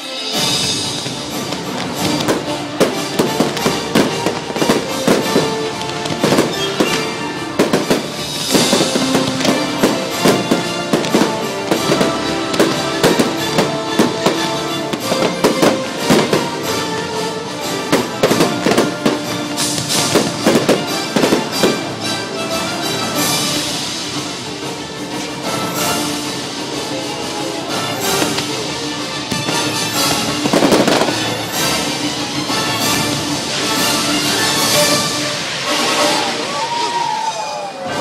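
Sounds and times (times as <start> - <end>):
show music with held tones: 0.0 - 36.7
fireworks bursting: 0.2 - 24.4, 25.7 - 37.7.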